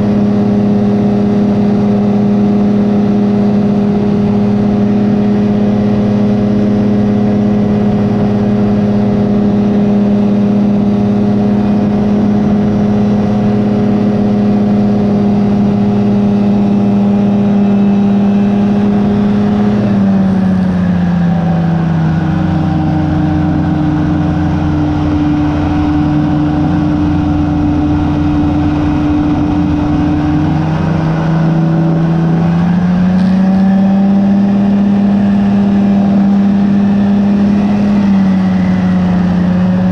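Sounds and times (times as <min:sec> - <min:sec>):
ultralight aircraft engine: 0:00.0 - 0:39.9.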